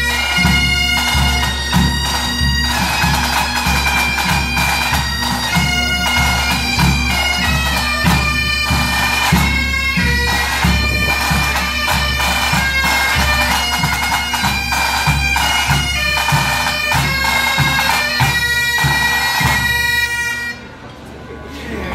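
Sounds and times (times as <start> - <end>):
drums beating time: 0.0 - 20.2
bagpipes playing a tune: 0.0 - 20.6.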